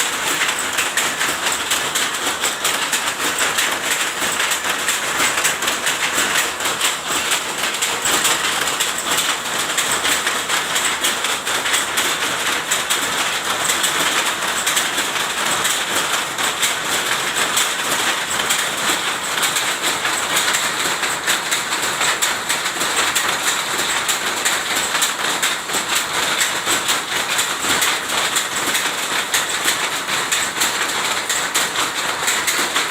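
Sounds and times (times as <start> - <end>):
textile machine clatter: 0.0 - 32.9.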